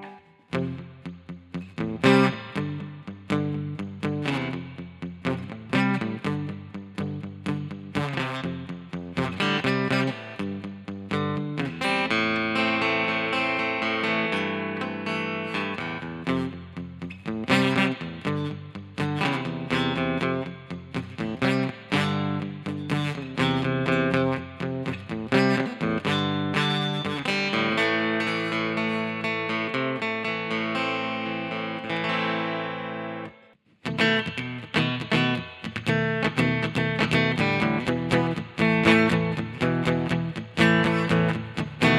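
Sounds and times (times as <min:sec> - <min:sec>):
amplified acoustic guitar picking: 0:00.0 - 0:41.9
guitar chord strummed and ringing: 0:00.0 - 0:41.9.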